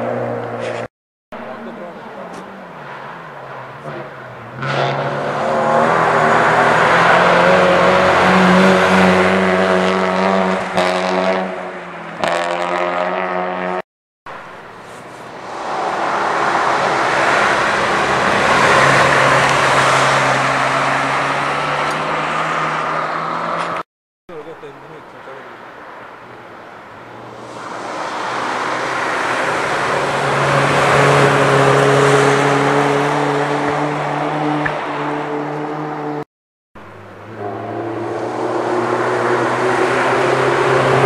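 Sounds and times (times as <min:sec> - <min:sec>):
rally car engines at high revs: 0:00.0 - 0:13.8, 0:15.4 - 0:23.8, 0:27.3 - 0:36.2, 0:37.2 - 0:41.0.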